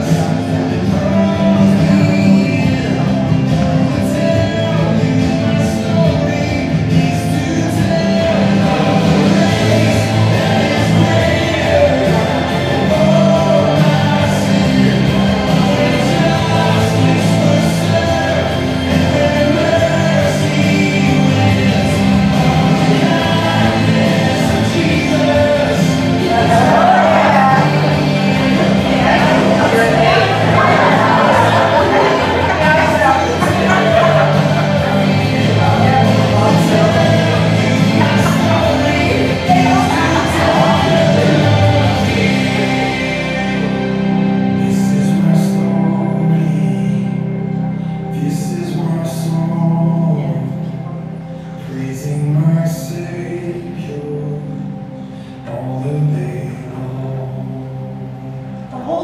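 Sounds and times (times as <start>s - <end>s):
people singing: 0.0s - 47.4s
sustained low accompaniment: 0.0s - 59.0s.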